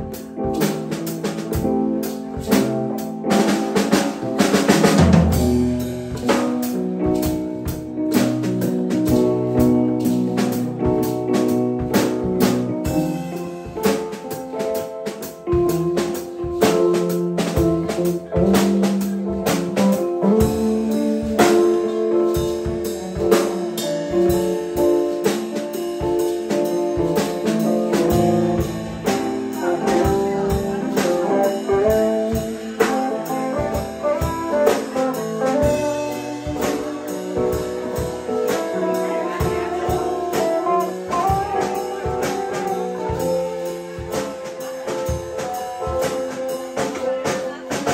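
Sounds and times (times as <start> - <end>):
drum hits: 0.0 - 47.9
live band playing: 0.0 - 47.9.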